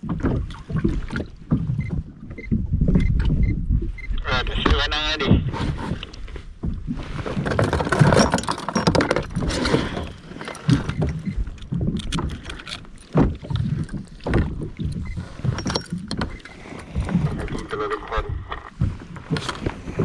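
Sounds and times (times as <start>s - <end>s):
water sounds: 0.0s - 20.0s.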